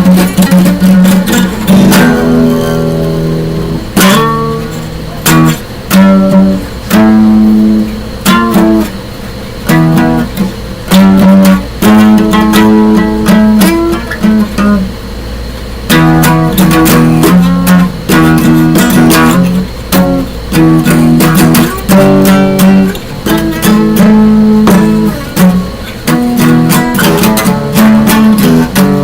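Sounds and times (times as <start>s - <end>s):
acoustic guitar strummed hard: 0.0s - 29.0s.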